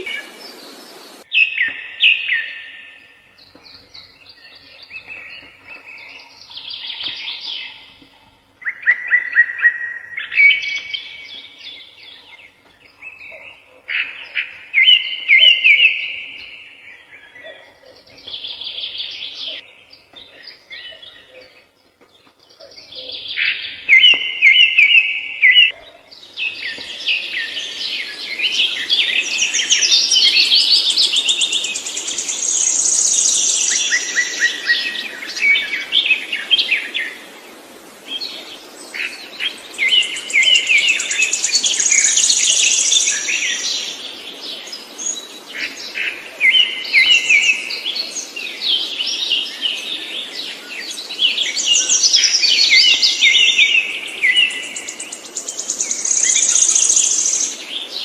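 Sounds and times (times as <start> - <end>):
songbird trilling and chirping: 0.0 - 36.3, 39.6 - 44.0, 50.9 - 58.0.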